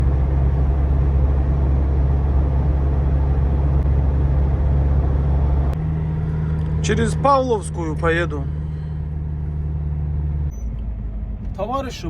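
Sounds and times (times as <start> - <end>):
van engine and road drone: 0.0 - 12.0.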